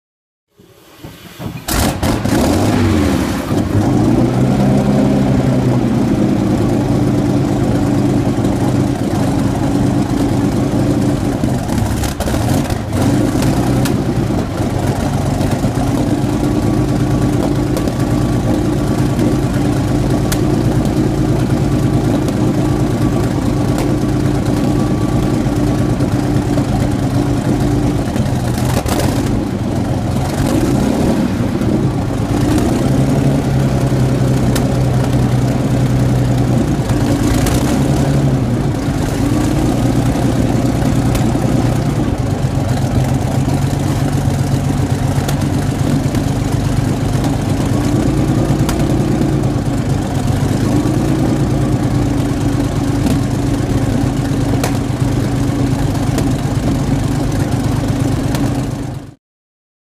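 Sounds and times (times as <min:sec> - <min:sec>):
tank engine idling: 0:01.6 - 0:59.2.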